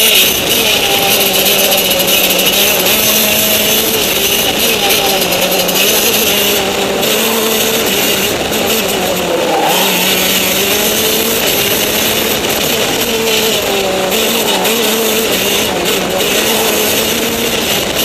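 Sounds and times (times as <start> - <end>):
go-kart engine running hard: 0.0 - 18.0
wind and road rush: 0.0 - 18.0.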